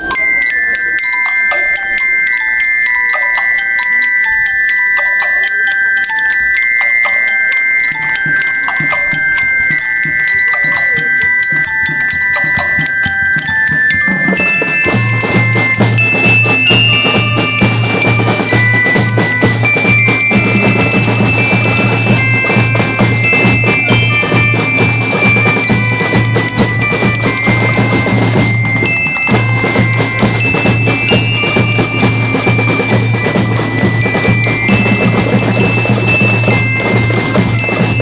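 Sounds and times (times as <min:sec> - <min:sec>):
drums: 0:00.0 - 0:38.0
metallophone melody: 0:00.0 - 0:38.0.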